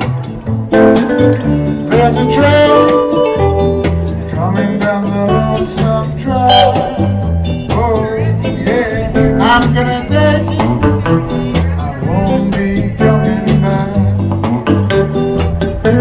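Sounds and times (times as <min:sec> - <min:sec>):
double bass plucking: 0:00.0 - 0:16.0
electric guitar: 0:00.0 - 0:16.0
strummed acoustic guitar: 0:00.0 - 0:16.0.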